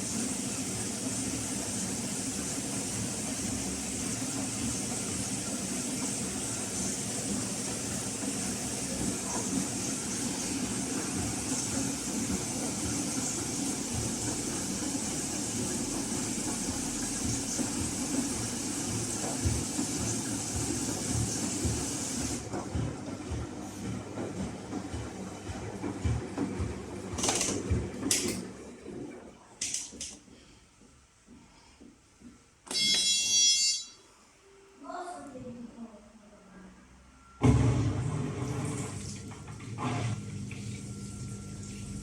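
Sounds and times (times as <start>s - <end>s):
washing machine running: 0.0s - 34.0s, 36.9s - 42.0s.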